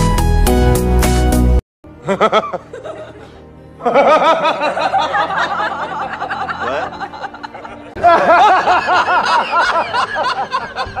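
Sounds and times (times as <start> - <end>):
loud laughter: 2.0 - 11.0.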